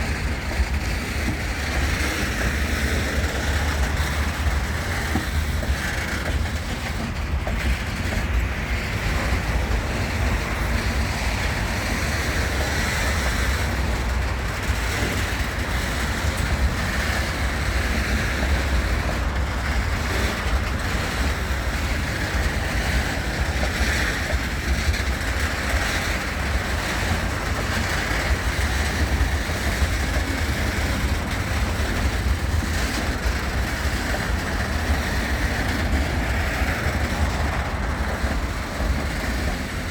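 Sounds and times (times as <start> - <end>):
diesel locomotive rumbling: 0.0 - 39.9.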